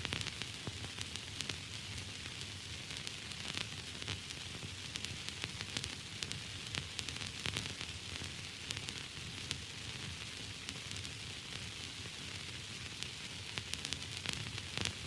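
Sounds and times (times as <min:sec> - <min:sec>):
crackles and pops: 0:00.0 - 0:15.0
static hiss: 0:00.0 - 0:15.0.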